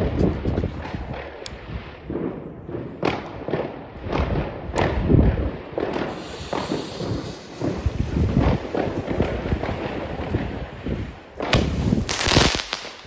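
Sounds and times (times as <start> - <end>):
firework shots banging: 2.0 - 13.0.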